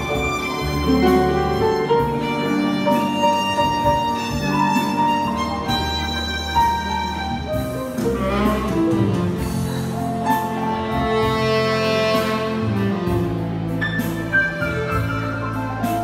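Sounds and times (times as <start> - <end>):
piano accompaniment: 0.0 - 16.0
tenor saxophone: 0.0 - 16.0
violin melody: 0.0 - 16.0.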